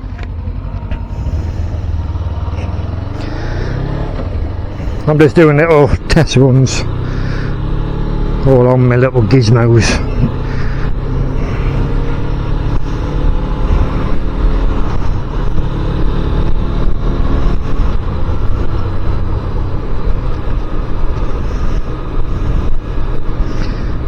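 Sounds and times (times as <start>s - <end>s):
motorcycle engine running: 0.0s - 24.0s
road and air noise: 0.0s - 24.0s.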